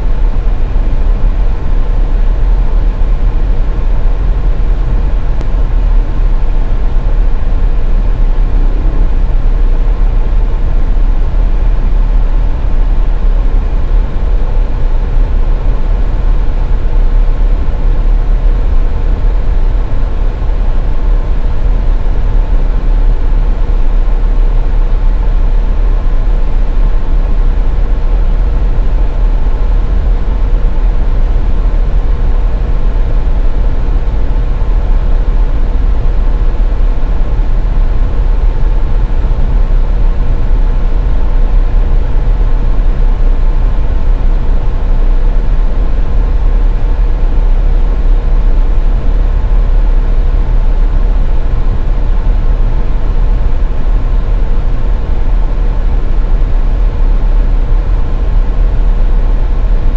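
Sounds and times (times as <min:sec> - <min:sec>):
car road and engine rumble: 0:00.0 - 0:59.9
faint constant hum: 0:00.0 - 0:59.9.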